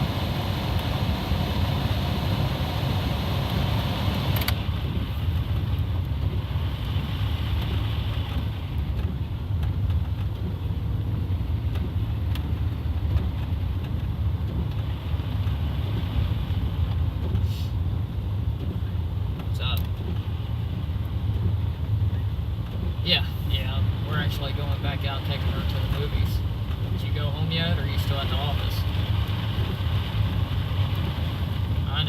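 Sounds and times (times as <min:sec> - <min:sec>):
car engine and tyre noise: 0:00.0 - 0:32.0.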